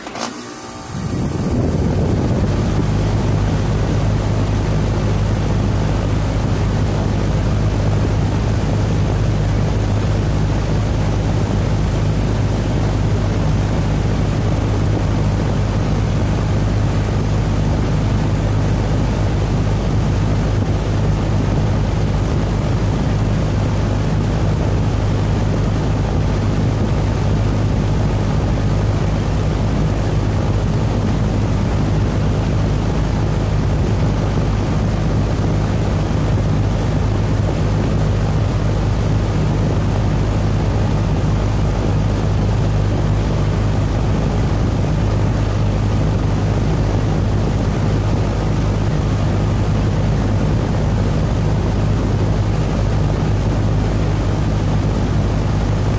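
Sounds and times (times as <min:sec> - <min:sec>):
air conditioner unit humming: 0:00.0 - 0:55.9.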